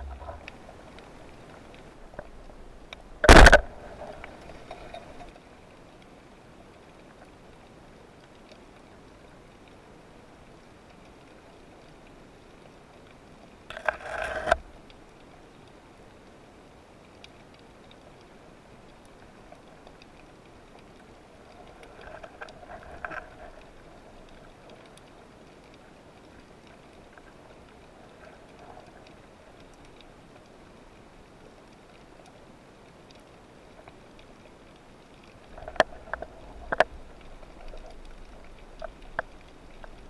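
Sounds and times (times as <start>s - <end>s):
faint ticks: 0.0s - 40.0s
faint underwater hiss: 0.0s - 40.0s.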